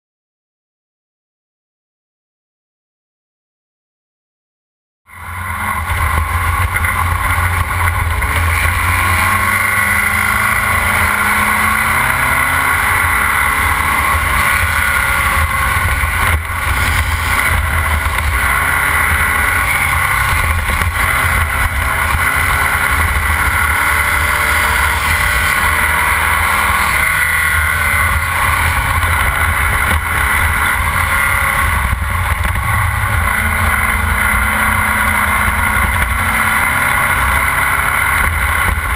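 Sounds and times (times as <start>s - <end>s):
race car engine shifting gears: 5.4s - 38.9s.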